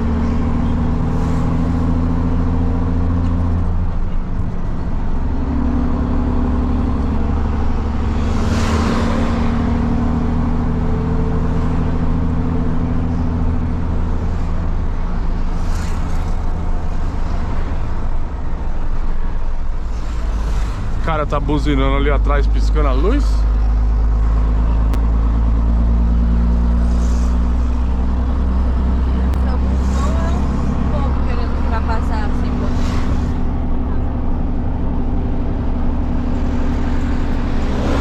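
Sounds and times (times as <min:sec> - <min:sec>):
diesel truck engine droning: 0:00.0 - 0:38.0.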